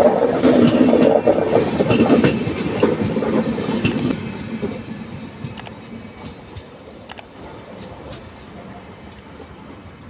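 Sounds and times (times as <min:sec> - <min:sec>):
train coaches rolling past: 0:00.0 - 0:10.0
wheels clicking over rail joints: 0:00.0 - 0:10.0.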